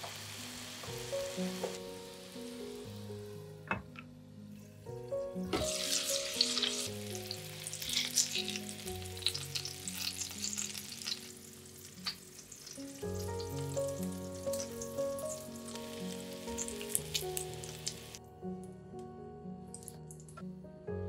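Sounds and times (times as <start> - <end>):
oil sizzling in a pan: 0.0 - 3.7, 4.5 - 18.2
soft melody: 0.0 - 21.0.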